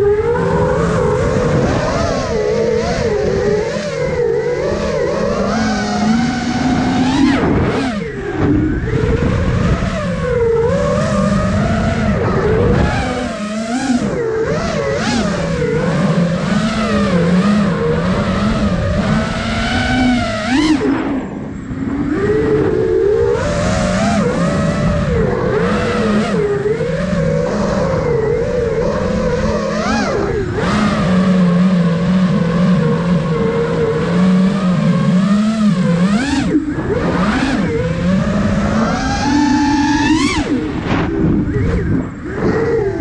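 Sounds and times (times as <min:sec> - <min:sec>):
quadcopter motors whining: 0:00.0 - 0:43.0
rushing wind: 0:00.0 - 0:43.0.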